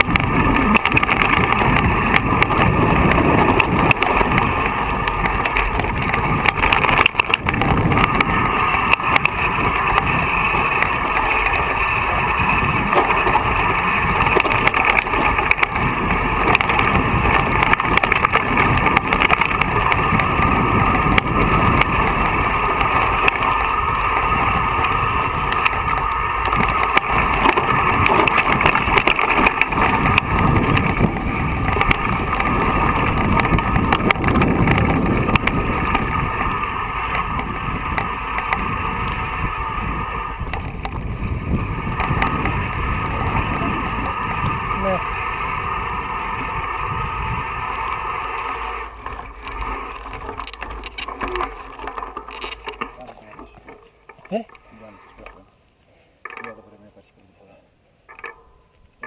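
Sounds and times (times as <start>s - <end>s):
wind on microphone: 0.0s - 52.5s
tyres crunching over stones: 0.0s - 55.4s
bike rattling: 0.0s - 59.0s.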